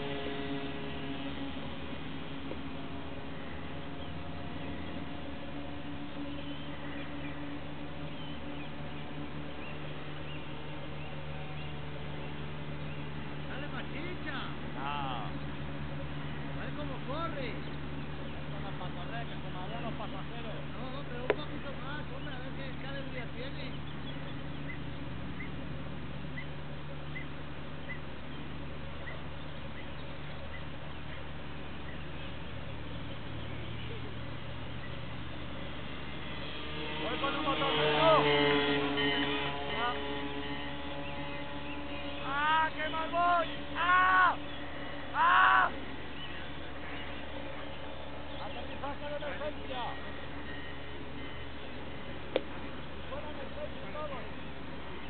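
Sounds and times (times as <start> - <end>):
model airplane motor drone: 0.0 - 55.0
small birds chirping: 0.0 - 55.0
steady low hum: 0.0 - 55.0.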